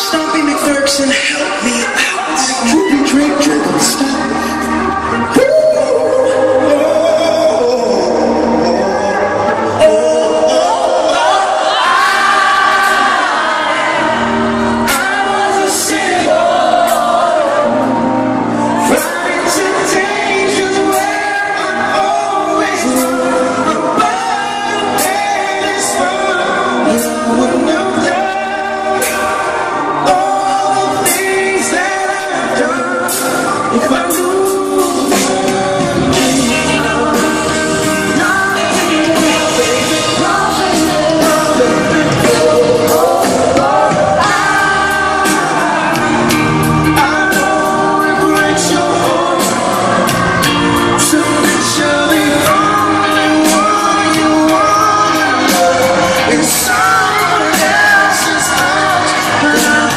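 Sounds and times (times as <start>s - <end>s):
man singing a slow pop song: 0.0s - 16.4s, 18.8s - 59.9s
live band playing: 0.0s - 59.9s.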